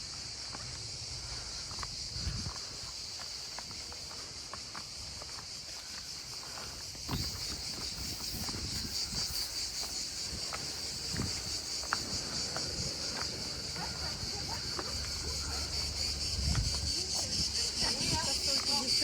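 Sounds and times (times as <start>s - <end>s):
footsteps: 0.0s - 19.0s
insects chirring: 0.0s - 19.0s.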